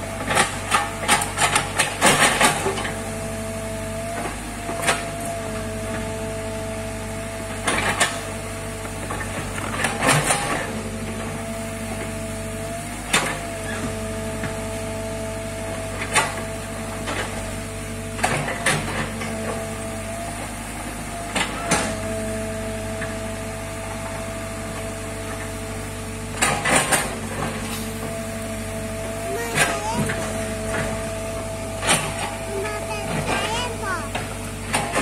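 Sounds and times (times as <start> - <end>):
excavator engine humming: 0.0 - 35.0.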